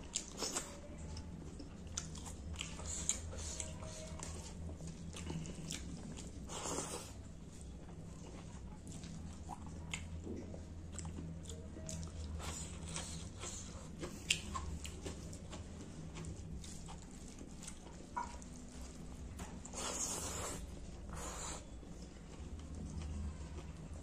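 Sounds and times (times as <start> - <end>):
chewing with wet clicks: 0.0 - 24.0
low steady hum: 0.0 - 24.0.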